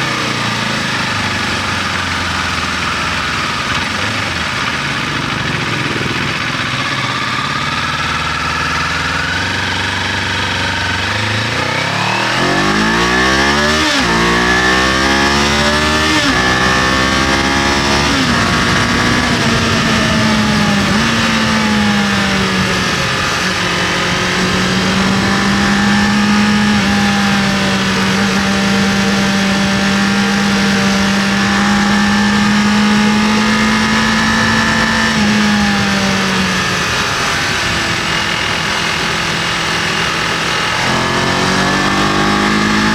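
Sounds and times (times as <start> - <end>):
motorcycle engine accelerating: 0.0 - 42.9
wind and road noise: 0.0 - 42.9.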